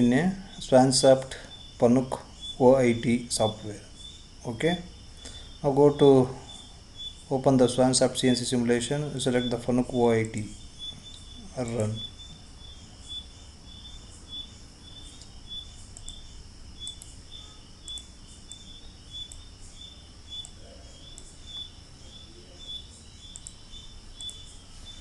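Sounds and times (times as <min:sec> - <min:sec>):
faint higher chirps: 0:00.0 - 0:25.0
insect-like chirping: 0:00.0 - 0:25.0.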